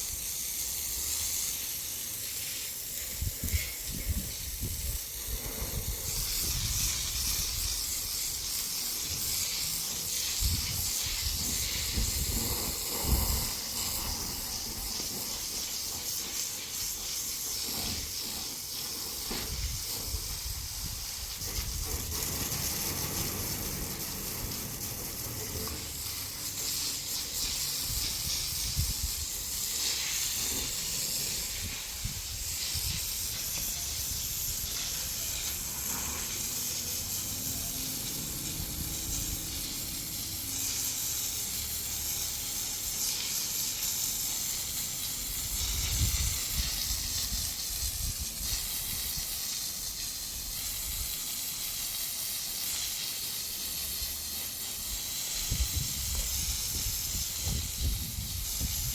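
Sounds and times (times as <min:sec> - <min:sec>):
steady high hiss: 0:00.0 - 0:58.9.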